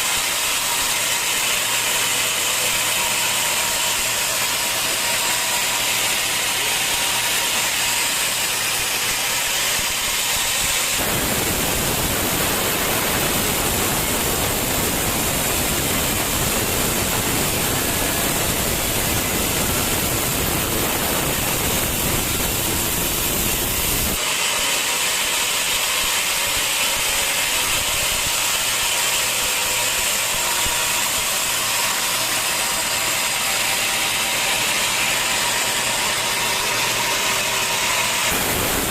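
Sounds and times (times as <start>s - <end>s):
sawmill saw hissing: 0.0s - 38.9s.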